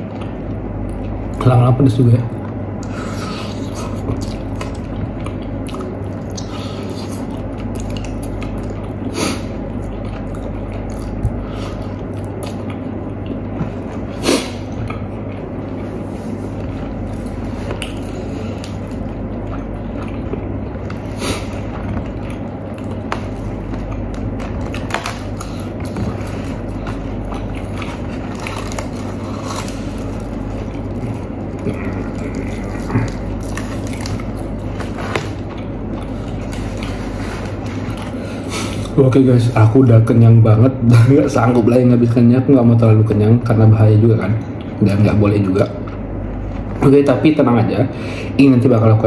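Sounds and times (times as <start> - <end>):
chewing and wet mouth sounds: 0.0 - 39.0, 44.2 - 46.9
steady low hum: 0.0 - 49.0.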